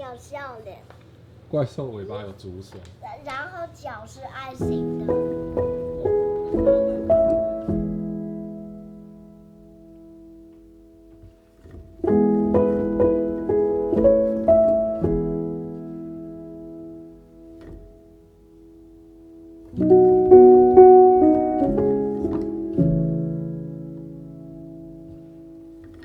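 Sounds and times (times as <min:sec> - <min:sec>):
piano music: 0:04.6 - 0:26.0.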